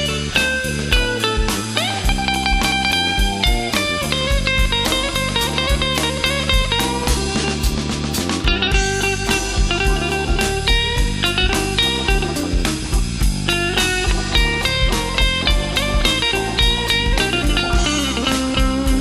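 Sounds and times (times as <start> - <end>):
bass: 0.0 - 19.0
drums with steady beat: 0.0 - 19.0
electric guitar lead: 0.0 - 19.0.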